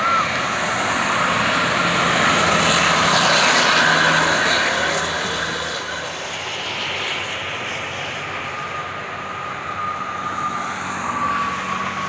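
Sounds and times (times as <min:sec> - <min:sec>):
highway traffic rushing: 0:00.0 - 0:12.0.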